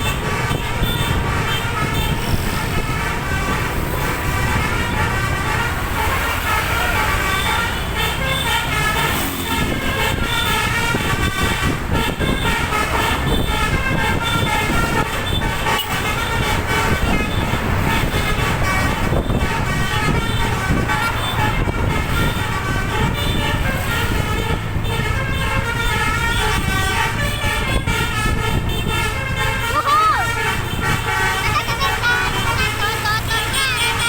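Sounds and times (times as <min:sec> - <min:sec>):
air horn playing a tune: 0:00.0 - 0:34.0
engine and road rumble: 0:00.0 - 0:34.0.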